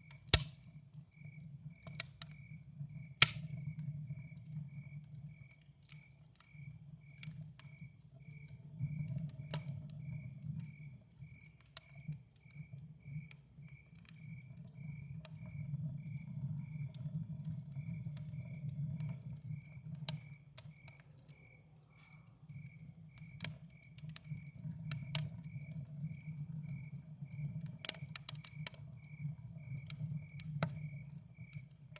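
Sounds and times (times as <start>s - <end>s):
campfire crackling and popping: 0.0s - 31.9s
cricket chirping: 0.0s - 31.9s.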